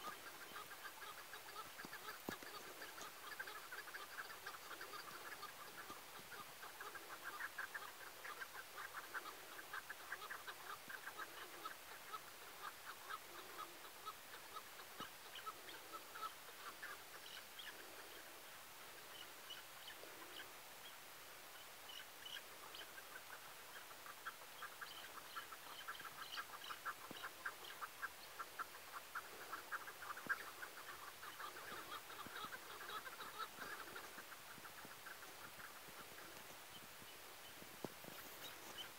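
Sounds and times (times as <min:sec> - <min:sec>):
partridges chattering calls: 0:00.0 - 0:18.3, 0:21.6 - 0:38.9.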